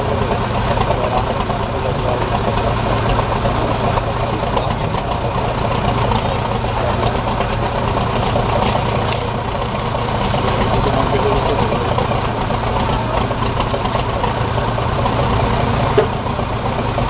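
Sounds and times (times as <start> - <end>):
diesel engine clattering: 0.0 - 17.0.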